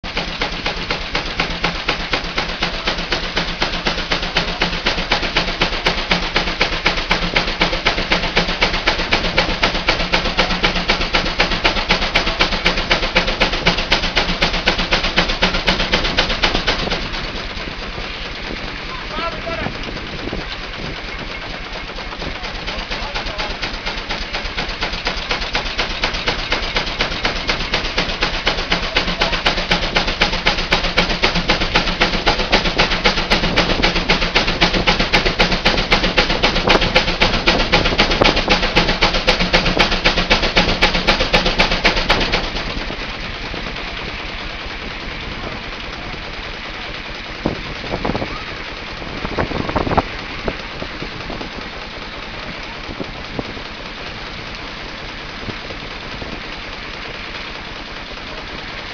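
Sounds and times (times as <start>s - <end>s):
steam engine exhaust chuffing: 0.0s - 58.9s.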